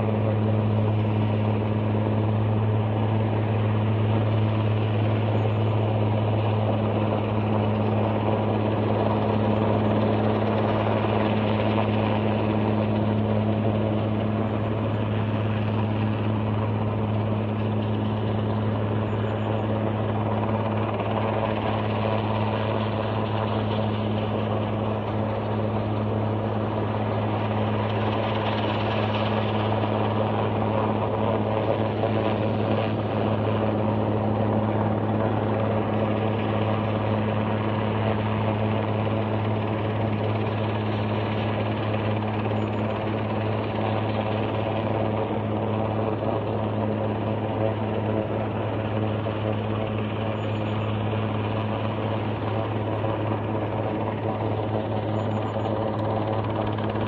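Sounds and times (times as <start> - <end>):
helicopter hovering: 0.0 - 57.0.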